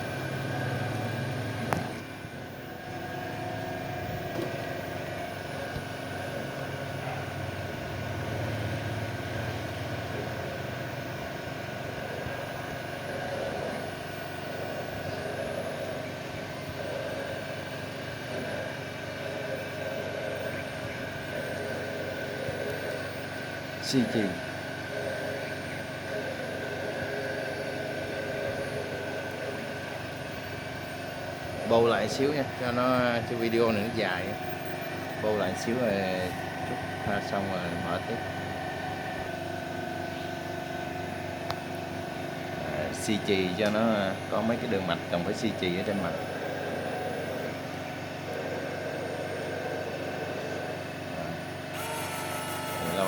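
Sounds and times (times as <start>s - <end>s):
faint steady tones: 0.0s - 53.0s
machine hum and whir: 0.0s - 53.0s.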